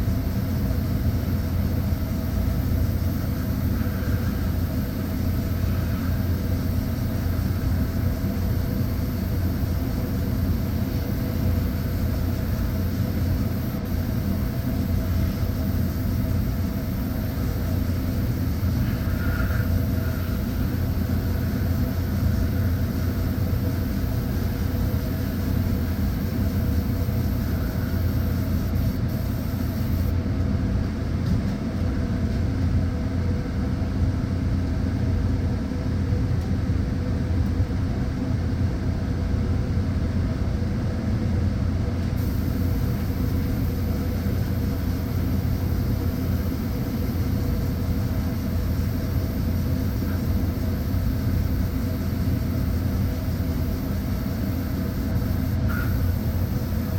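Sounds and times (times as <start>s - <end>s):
mechanical hum and rumble: 0.0s - 56.9s.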